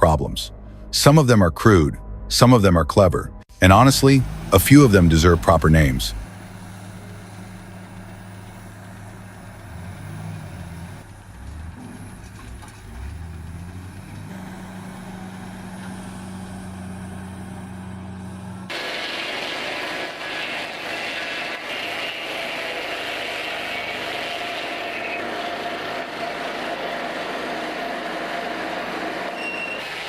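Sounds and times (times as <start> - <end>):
engine humming: 3.5 - 30.0
hissing machine noise: 3.6 - 30.0.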